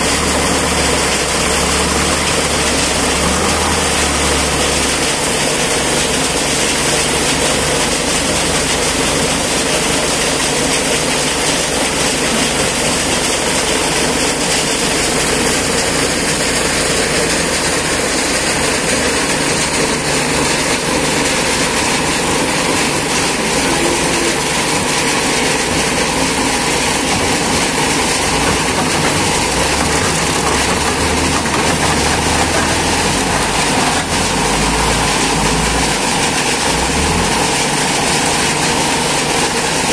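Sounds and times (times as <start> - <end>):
diesel engine running loudly: 0.0 - 39.9.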